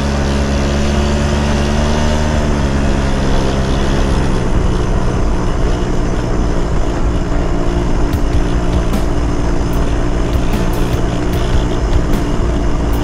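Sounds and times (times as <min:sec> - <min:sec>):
road noise: 0:00.0 - 0:13.0
scooter engine running: 0:00.0 - 0:13.0.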